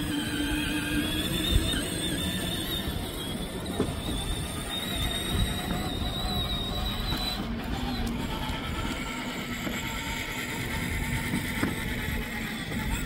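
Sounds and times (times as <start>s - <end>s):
electric toy motor whine: 0.0s - 13.0s
plastic wheels rolling: 0.0s - 13.0s.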